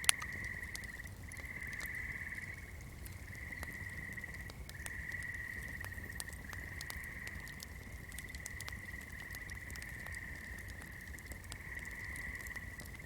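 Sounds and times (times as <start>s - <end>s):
candle crackling: 0.0s - 13.0s
frogs trilling: 0.0s - 13.0s.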